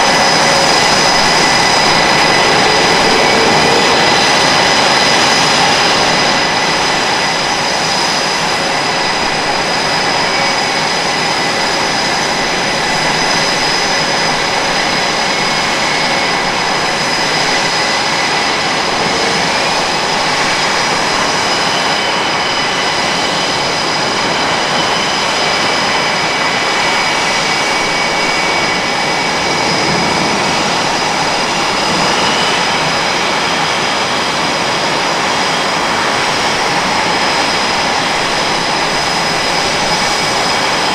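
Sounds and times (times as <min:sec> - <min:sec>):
high-pitched jet whines: 0:00.0 - 0:40.9
jet engines roaring: 0:00.0 - 0:40.9.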